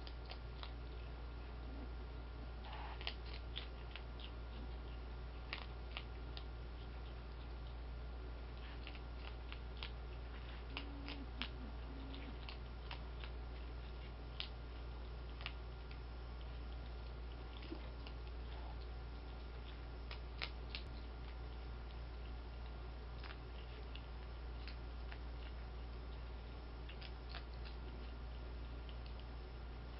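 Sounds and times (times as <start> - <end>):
kibble crunching: 0.0 - 1.8, 2.6 - 29.9
steady low hum: 0.0 - 29.9.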